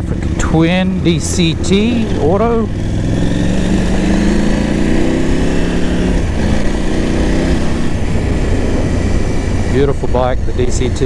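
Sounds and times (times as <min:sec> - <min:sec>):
motorcycle engine accelerating: 0:00.0 - 0:11.0
wind noise: 0:01.0 - 0:11.0.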